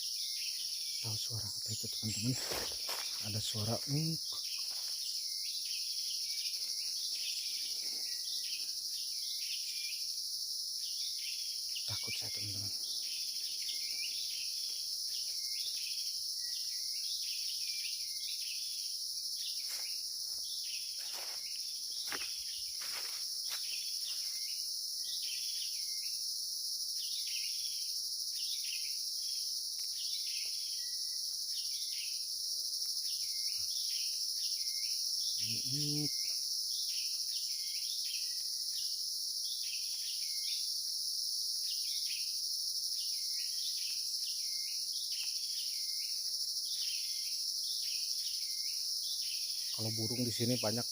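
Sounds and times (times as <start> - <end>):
insects droning: 0.0 - 50.9.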